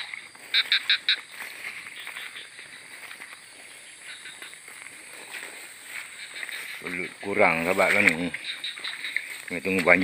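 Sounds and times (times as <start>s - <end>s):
frog croaking: 0.0s - 10.0s.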